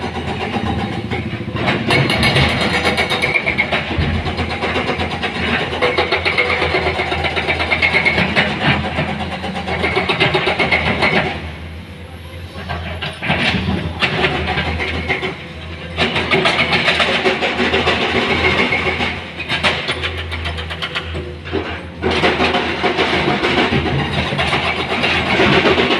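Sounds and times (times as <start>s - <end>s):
heavy machinery running: 0.0s - 25.9s.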